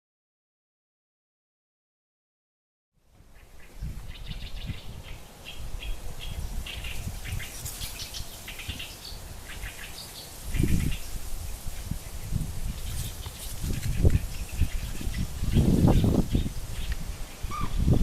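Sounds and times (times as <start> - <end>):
wind gusting through reeds: 3.0 - 18.0
small birds chirping: 3.2 - 18.0.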